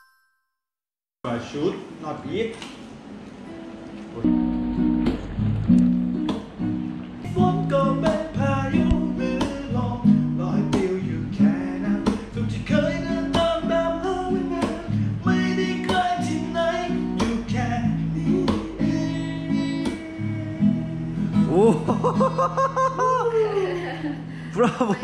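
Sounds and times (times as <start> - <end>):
acoustic guitar strumming: 3.0 - 25.0.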